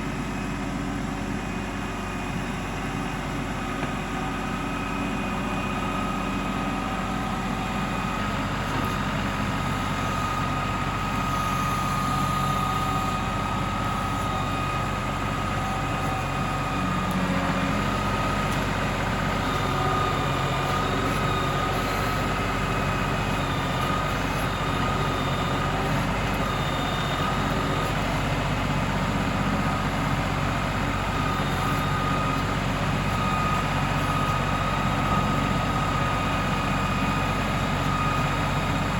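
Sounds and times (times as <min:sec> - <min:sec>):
steady high whine: 0:00.0 - 0:38.9
tractor diesel engine running: 0:00.0 - 0:38.9.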